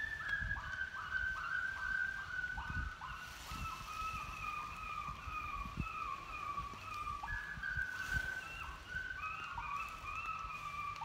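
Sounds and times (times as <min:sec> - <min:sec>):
coyote distress yelps and cries: 0:00.0 - 0:11.0.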